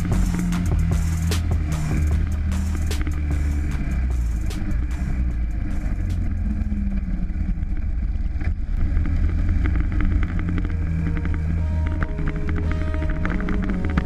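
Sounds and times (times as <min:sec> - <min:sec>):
dirt bike engine rumbling: 0:00.0 - 0:14.0.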